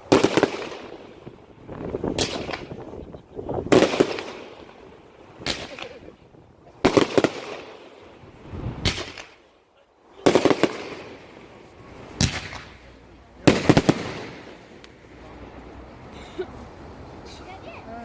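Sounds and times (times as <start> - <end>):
fireworks bursting with echo: 0.0 - 15.3.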